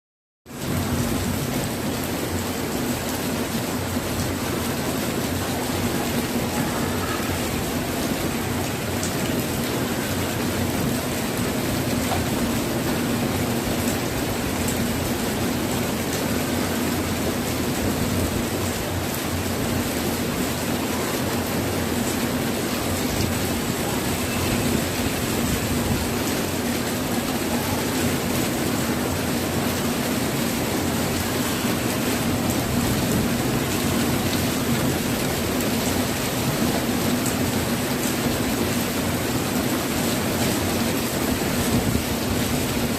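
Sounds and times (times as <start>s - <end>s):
heavy rain pouring: 0.5s - 42.9s.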